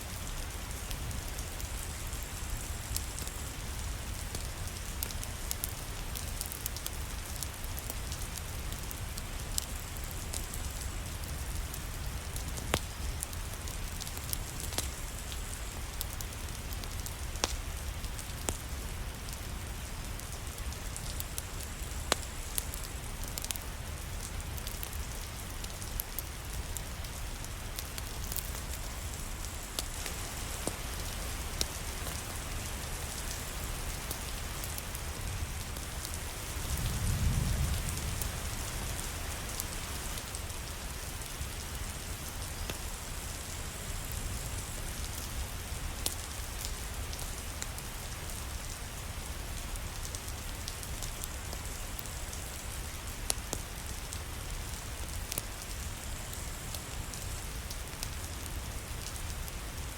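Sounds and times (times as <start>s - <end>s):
fireplace fire crackling: 0.0s - 59.9s
steady rain: 0.0s - 59.9s.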